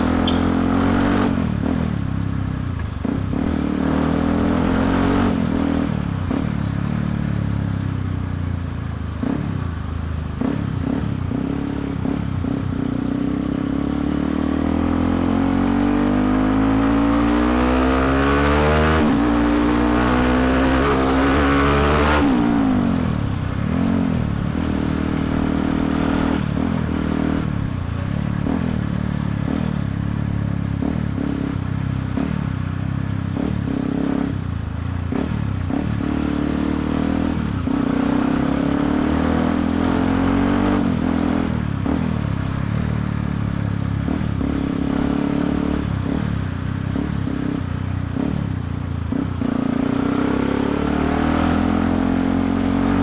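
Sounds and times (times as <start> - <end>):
motorcycle engine revving: 0.0 - 8.1, 9.1 - 53.0.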